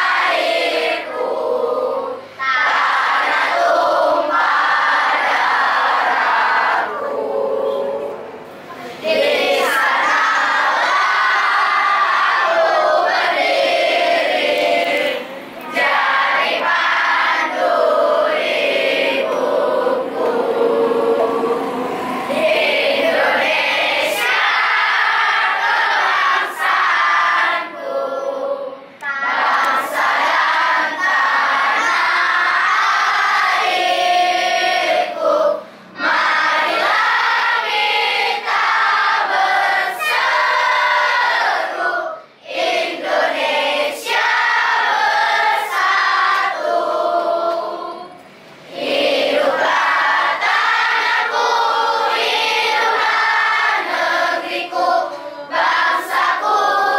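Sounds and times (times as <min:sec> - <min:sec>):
children singing together: 0:00.0 - 0:56.9.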